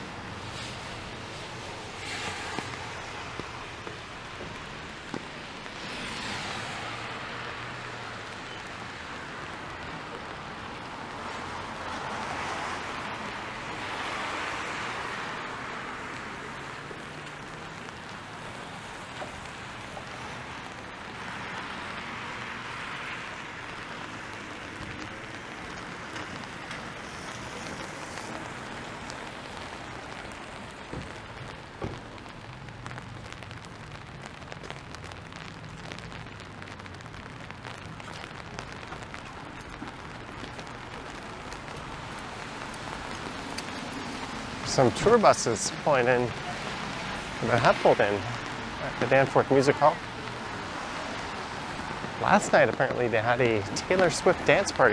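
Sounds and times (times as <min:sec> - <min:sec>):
cars swishing past on wet road: 0:00.0 - 0:54.9
rain hissing on pavement: 0:00.0 - 0:54.9.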